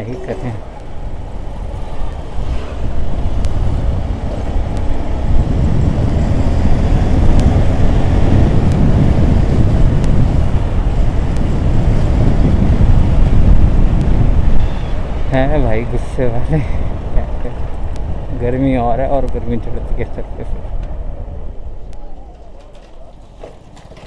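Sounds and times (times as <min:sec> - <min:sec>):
wind rushing over microphone: 0:00.0 - 0:23.7
motorcycle engine and road rumble: 0:00.0 - 0:24.0.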